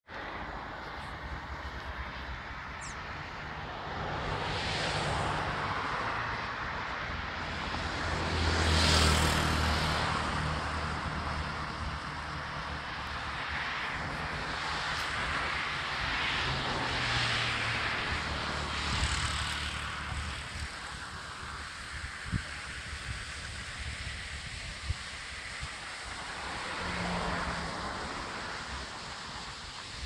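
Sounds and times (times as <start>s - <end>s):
engine drone with hiss: 0.1s - 30.0s.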